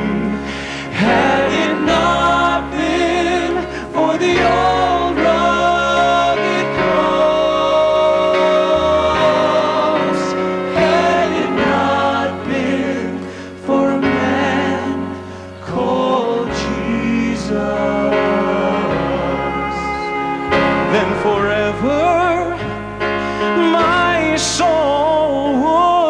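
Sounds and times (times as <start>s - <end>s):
choir singing gospel: 0.0s - 26.0s
instrumental accompaniment: 0.0s - 26.0s.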